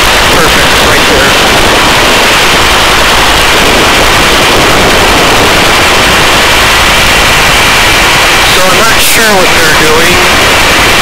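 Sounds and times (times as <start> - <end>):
faint high whine: 0.0 - 11.0
helicopter hovering: 0.0 - 11.0.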